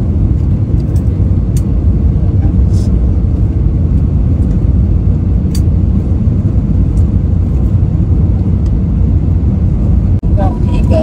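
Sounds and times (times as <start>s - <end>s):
jet airliner cabin noise: 0.0s - 11.0s.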